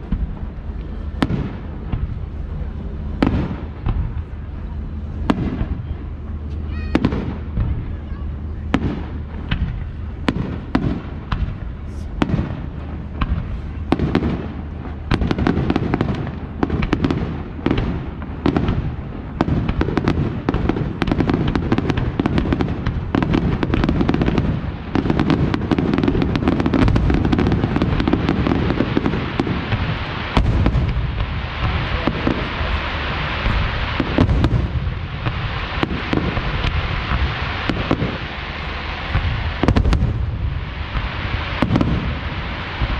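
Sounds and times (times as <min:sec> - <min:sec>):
dense hiss: 0:00.0 - 0:42.9
fireworks bangs: 0:00.0 - 0:42.9
low rolling rumble: 0:00.0 - 0:42.9.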